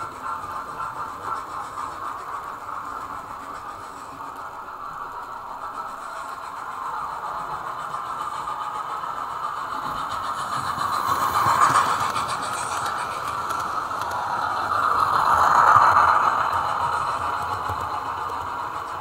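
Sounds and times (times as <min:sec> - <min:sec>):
model trains running on track: 0:00.0 - 0:19.0.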